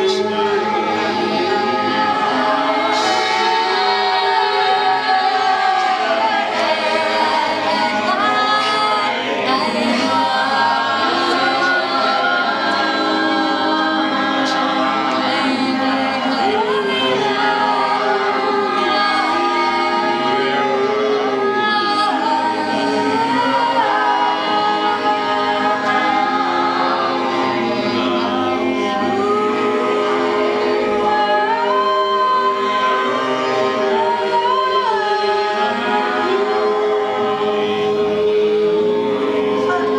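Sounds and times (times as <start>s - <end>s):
voices singing unaccompanied: 0.0s - 39.9s.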